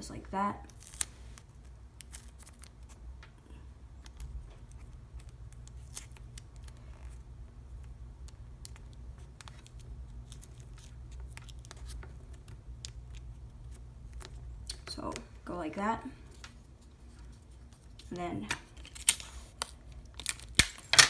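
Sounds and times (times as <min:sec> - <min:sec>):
low steady hum: 0:00.0 - 0:21.0
hands handling foam and tape: 0:00.7 - 0:03.4, 0:04.0 - 0:14.8, 0:16.3 - 0:21.0.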